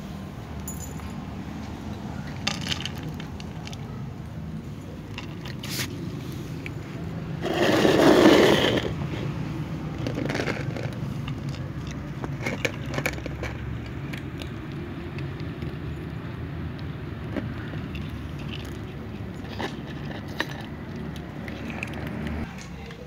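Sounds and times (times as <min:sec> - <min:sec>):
cats crunching dry kibble: 0:01.9 - 0:23.0.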